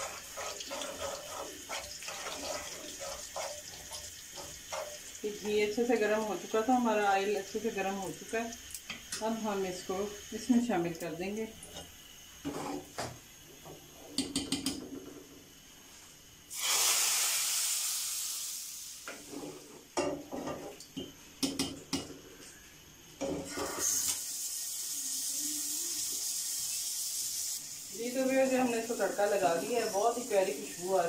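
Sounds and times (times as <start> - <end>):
hot oil sizzling: 0.0 - 14.8, 16.5 - 20.6, 23.2 - 31.0.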